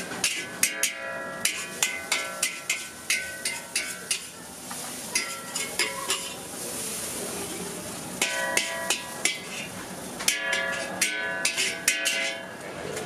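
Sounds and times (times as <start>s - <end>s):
wok ringing: 0.0s - 7.1s, 7.9s - 13.0s
metal spatula scraping a wok: 0.0s - 7.2s, 8.2s - 12.6s
frying hiss: 0.0s - 13.0s.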